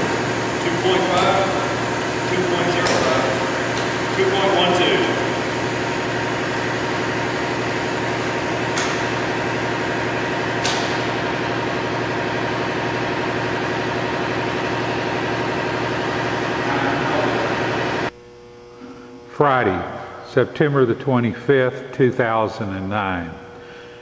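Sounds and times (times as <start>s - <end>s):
blower mechanical drone: 0.0s - 24.0s.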